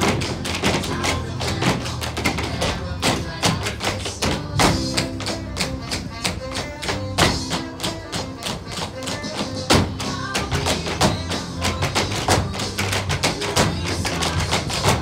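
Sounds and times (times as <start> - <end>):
loud recorded dance music: 0.0 - 15.0
tap shoes on stage floor: 0.0 - 15.0.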